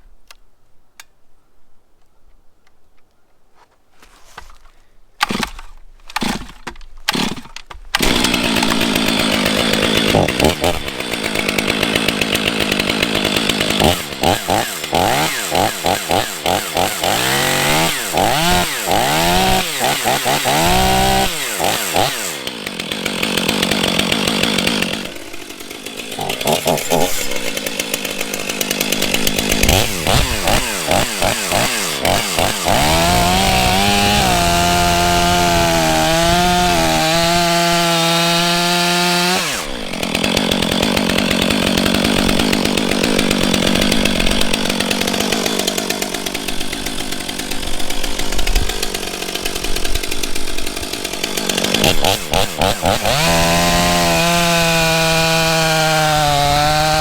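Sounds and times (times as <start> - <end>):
chainsaw cutting a log: 5.2 - 57.0.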